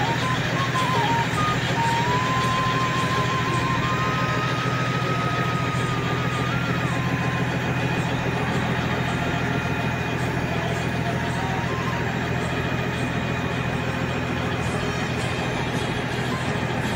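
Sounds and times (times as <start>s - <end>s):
ferry engine droning: 0.0s - 16.9s.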